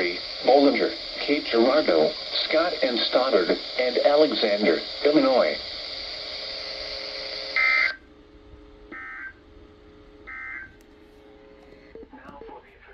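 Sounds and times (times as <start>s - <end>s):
broadcast hiss: 0.0s - 12.9s.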